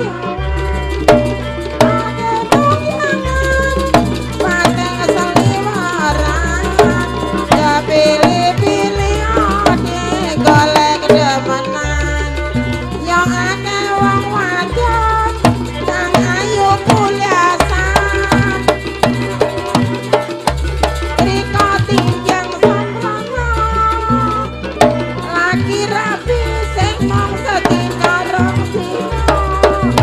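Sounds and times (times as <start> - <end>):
wavering bending lead melody: 0.0 - 30.0
kendang drum strokes: 0.5 - 30.0.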